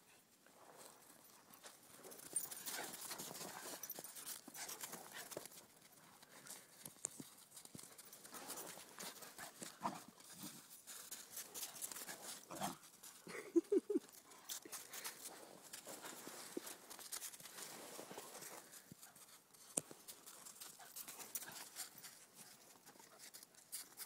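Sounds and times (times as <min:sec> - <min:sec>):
paws crunching through snow: 0:00.6 - 0:13.2, 0:14.2 - 0:24.0.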